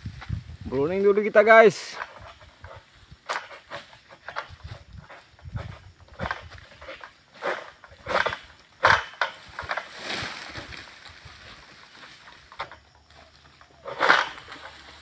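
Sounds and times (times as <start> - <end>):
leaves rustling: 0.0 - 15.0.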